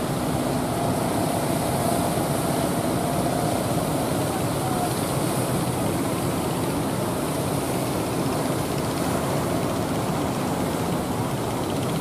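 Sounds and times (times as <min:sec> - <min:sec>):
rough sea surf: 0:00.0 - 0:12.0
wind: 0:00.0 - 0:12.0.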